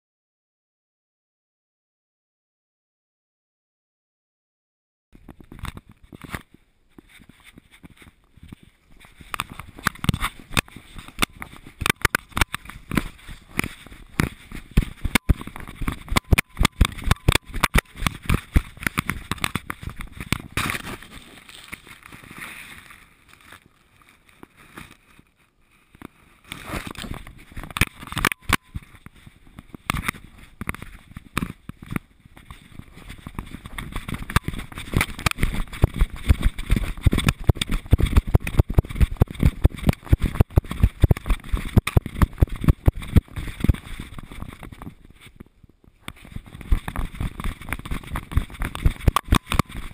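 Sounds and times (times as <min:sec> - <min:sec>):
camera rattling in housing: 0:05.2 - 0:22.4, 0:25.9 - 0:49.9.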